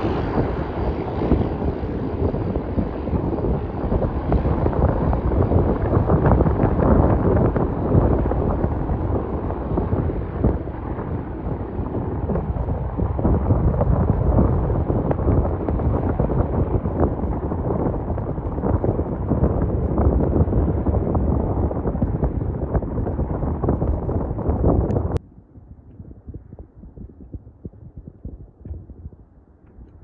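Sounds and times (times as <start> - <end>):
distant propeller plane engines: 0.0 - 30.0
wind buffeting microphone: 0.0 - 30.0.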